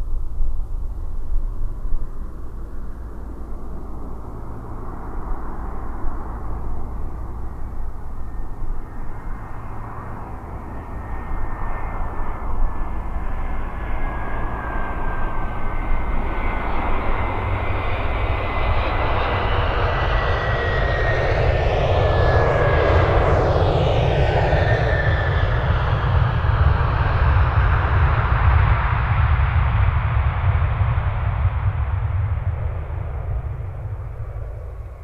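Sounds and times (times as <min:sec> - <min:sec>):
jet airliner engines approaching: 0:00.0 - 0:35.0.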